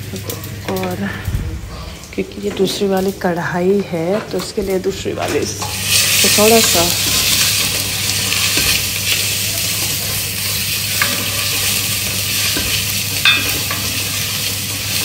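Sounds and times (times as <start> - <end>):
spices sizzling in hot fat: 0.0 - 15.0.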